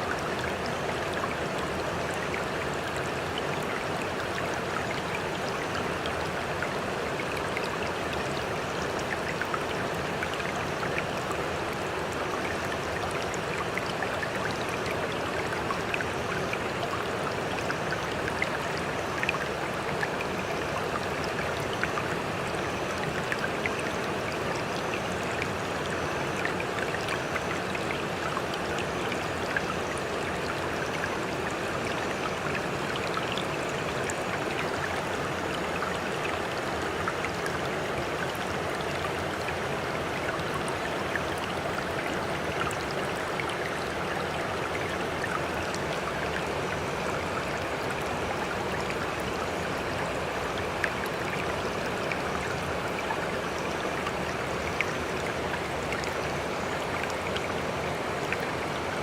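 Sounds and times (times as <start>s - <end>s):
sea water lapping and trickling: 0.0s - 59.0s
small water splashes and drips: 0.0s - 59.0s.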